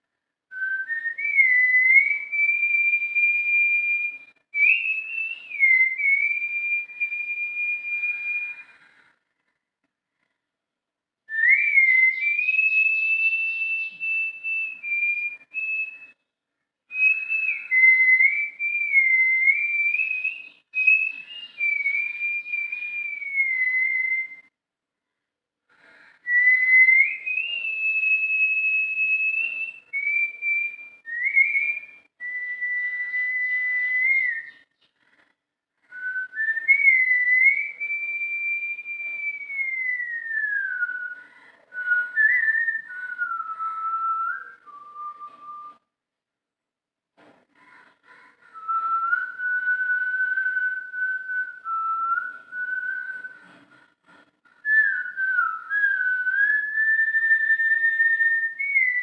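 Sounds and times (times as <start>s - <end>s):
man whistling a melody: 0.5s - 9.0s, 11.3s - 16.3s, 16.9s - 24.5s, 26.2s - 34.7s, 35.9s - 45.9s, 48.6s - 53.6s, 54.6s - 59.0s.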